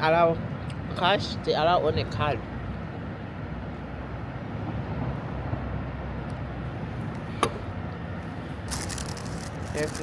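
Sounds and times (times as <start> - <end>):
city background rumble: 0.0 - 10.0.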